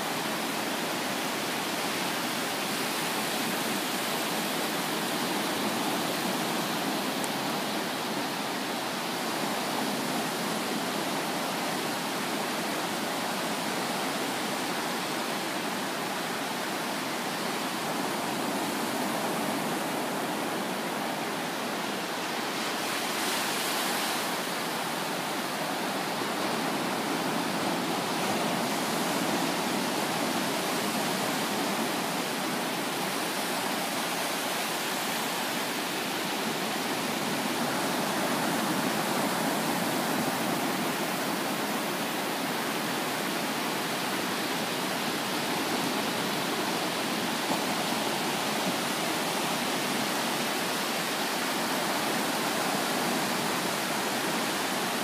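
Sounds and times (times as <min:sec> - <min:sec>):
waves breaking on sand: 0:00.0 - 0:55.0.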